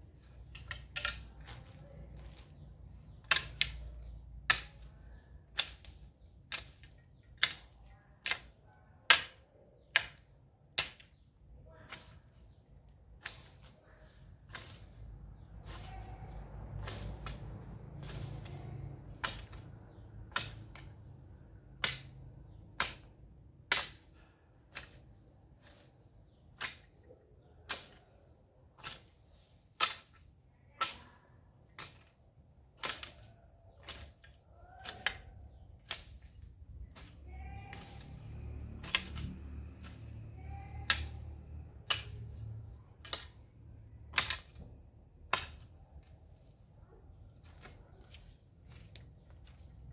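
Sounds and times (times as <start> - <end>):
garden hoe chopping into ground: 0.4 - 11.2, 11.9 - 27.1, 27.7 - 49.9.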